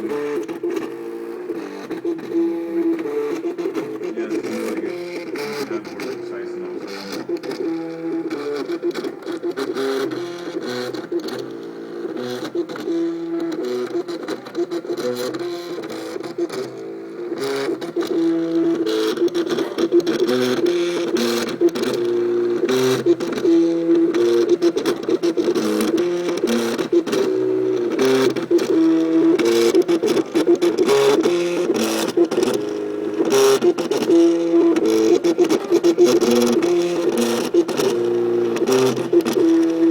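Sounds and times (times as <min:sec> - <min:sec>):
printer clicks: 0:00.0 - 0:39.9.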